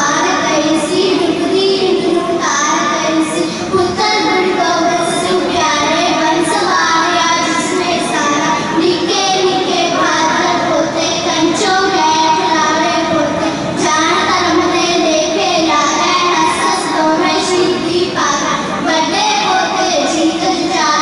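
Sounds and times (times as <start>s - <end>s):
girls chanting through microphones: 0.0s - 21.0s.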